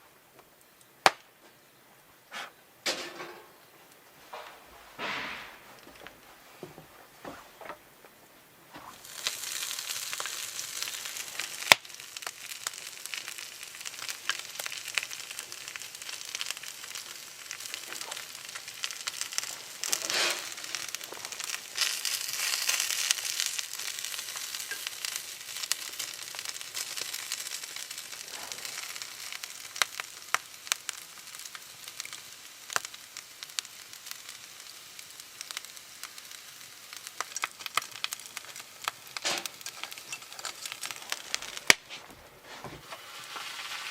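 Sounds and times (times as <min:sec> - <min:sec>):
bamboo burning with crackles and pops: 0:00.0 - 0:43.9.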